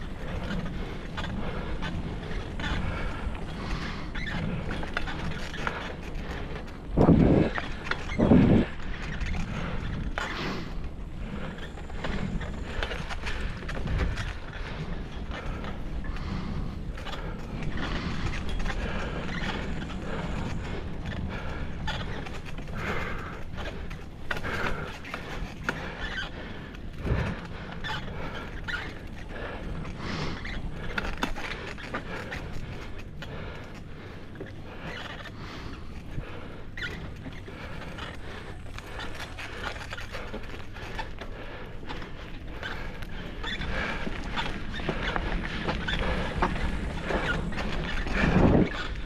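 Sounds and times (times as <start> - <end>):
bicycle tyres rumbling on trail: 0.0 - 49.0.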